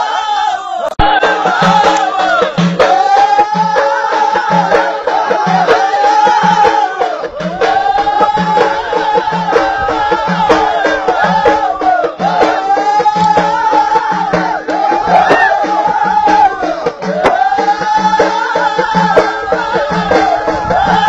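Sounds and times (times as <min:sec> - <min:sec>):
group of voices singing: 0:00.0 - 0:21.0
frame drums beating: 0:01.0 - 0:21.0.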